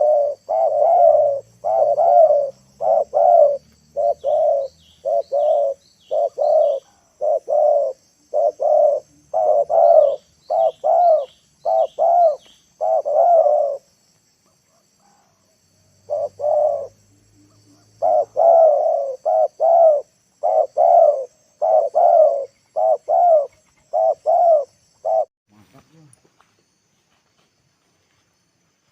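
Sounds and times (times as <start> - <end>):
dove cooing: 0.0 - 13.9, 14.7 - 25.3
small birds chirping: 0.0 - 25.3.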